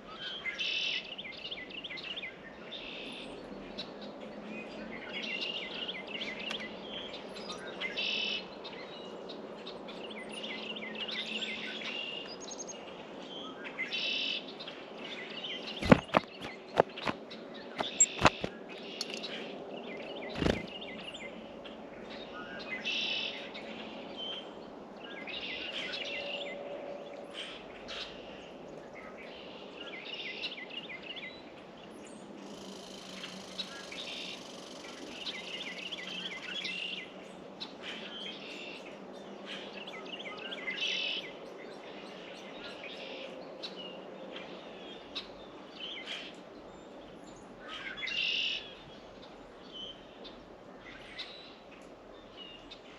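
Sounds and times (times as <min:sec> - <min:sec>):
songbirds chirping: 0:00.0 - 0:52.9.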